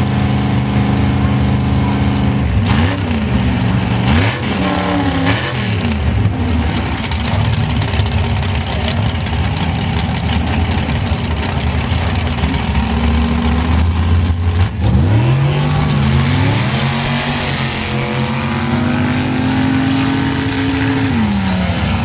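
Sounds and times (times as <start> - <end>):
drag truck engines rumbling: 0.0 - 22.0.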